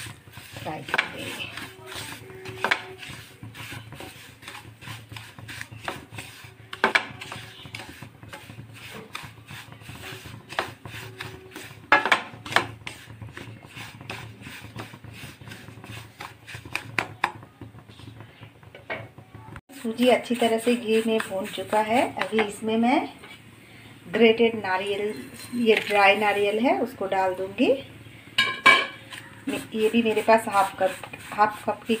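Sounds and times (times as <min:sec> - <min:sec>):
wooden spatula scraping a pan: 0:00.0 - 0:18.7, 0:19.7 - 0:32.0.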